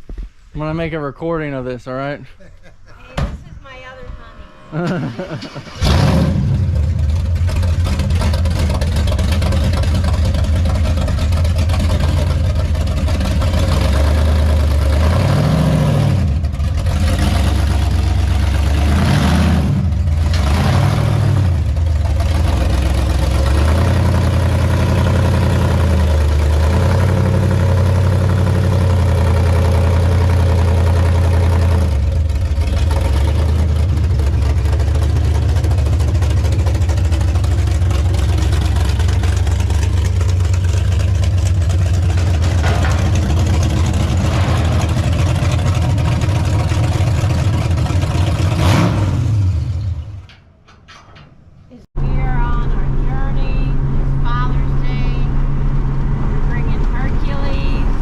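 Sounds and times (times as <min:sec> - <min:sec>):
car engine idling and revving: 0:04.7 - 0:50.6, 0:51.8 - 0:58.0.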